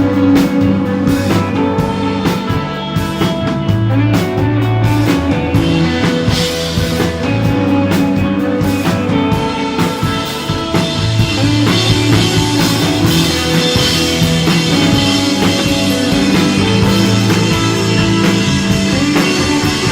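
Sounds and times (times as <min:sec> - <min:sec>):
drum kit beat: 0:00.0 - 0:19.9
electric guitar lines: 0:00.0 - 0:19.9
held bass notes: 0:00.0 - 0:19.9.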